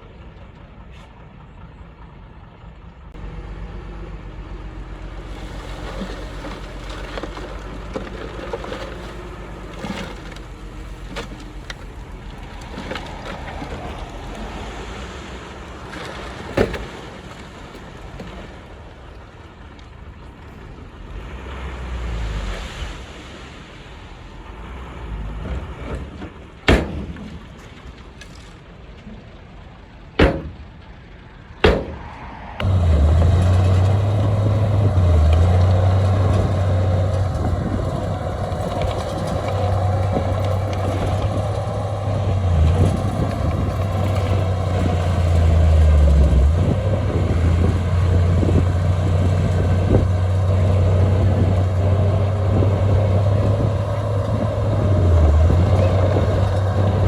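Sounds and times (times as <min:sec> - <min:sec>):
diesel engine running: 0:00.0 - 0:22.6, 0:29.1 - 0:57.0.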